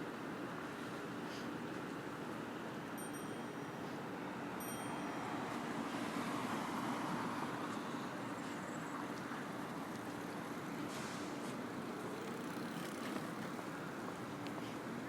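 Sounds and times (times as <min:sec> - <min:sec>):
traffic hum: 0:00.1 - 0:15.0.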